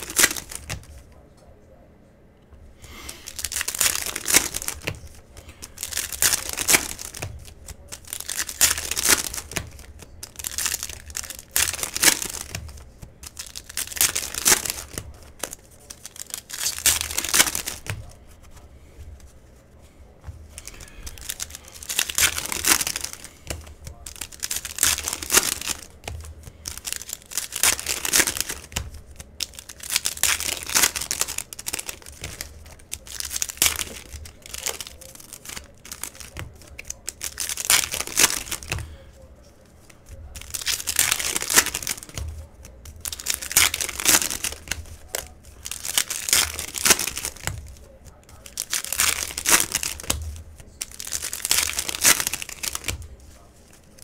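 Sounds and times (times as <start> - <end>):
cellophane wrappers crinkling and tearing: 0.0 - 1.1, 2.8 - 19.5, 20.4 - 54.0.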